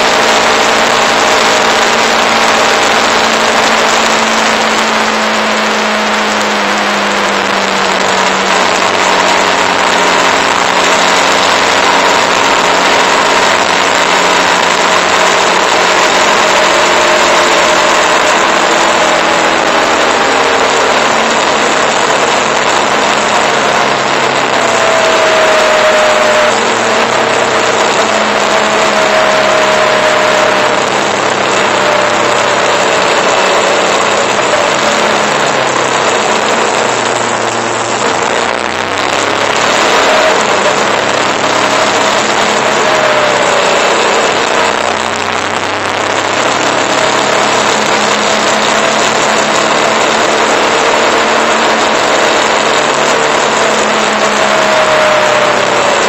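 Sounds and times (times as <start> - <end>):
motorcycle engine running: 0.0 - 56.0
whine sliding down in pitch: 0.0 - 56.0
wind and road noise: 0.0 - 56.0.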